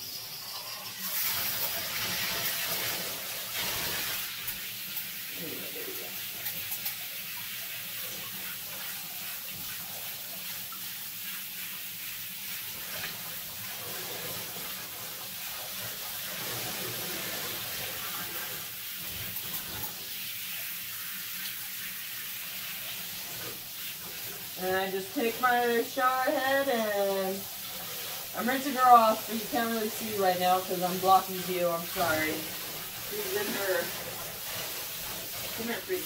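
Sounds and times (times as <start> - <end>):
shower head spraying water: 0.0 - 36.0.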